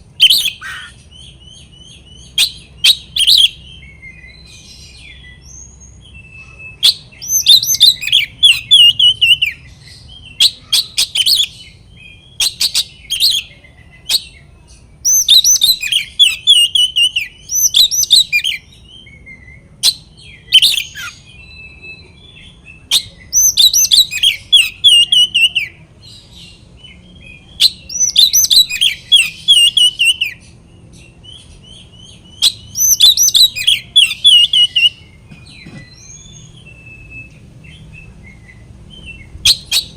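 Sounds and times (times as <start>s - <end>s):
songbird whistling and chattering: 0.0s - 39.9s.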